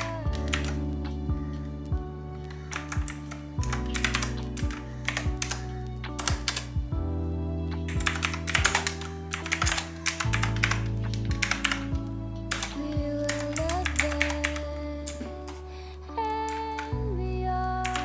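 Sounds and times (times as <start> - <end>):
background music with steady beat: 0.0 - 18.0.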